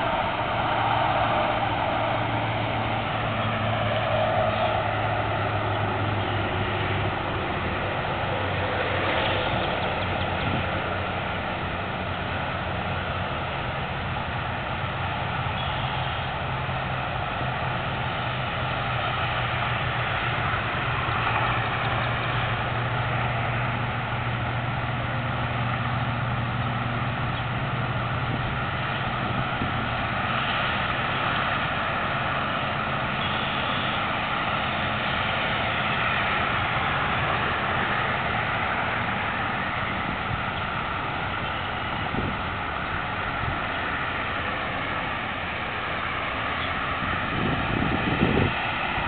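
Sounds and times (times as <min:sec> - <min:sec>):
low motor drone: 0:00.0 - 0:49.0
constant hiss: 0:05.2 - 0:49.0.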